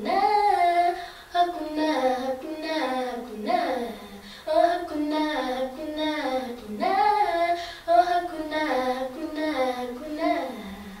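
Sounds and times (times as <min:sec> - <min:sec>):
girl singing gospel solo: 0:00.0 - 0:11.0.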